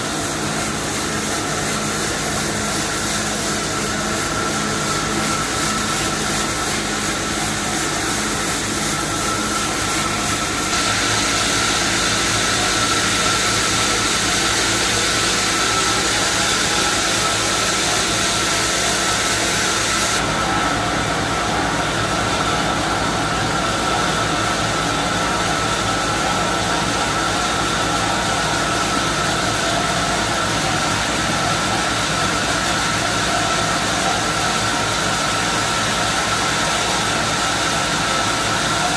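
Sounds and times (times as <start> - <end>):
high whine: 0.0 - 38.9
sawmill machine running: 0.0 - 38.9.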